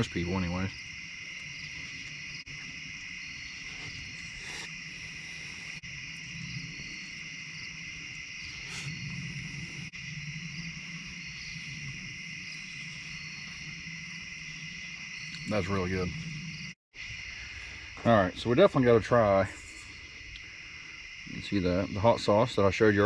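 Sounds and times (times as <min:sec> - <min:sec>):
crickets and insects trilling: 0:00.0 - 0:23.0.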